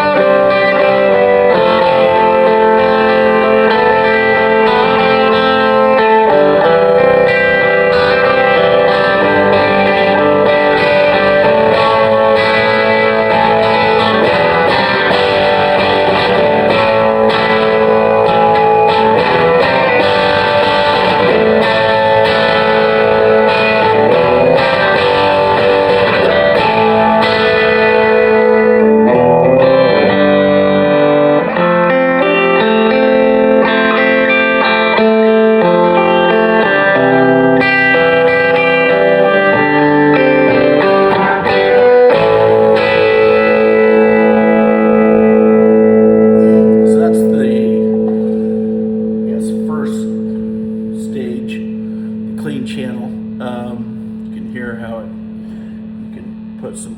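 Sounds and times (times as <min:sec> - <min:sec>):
clean electric guitar playing: 0:00.0 - 0:56.9.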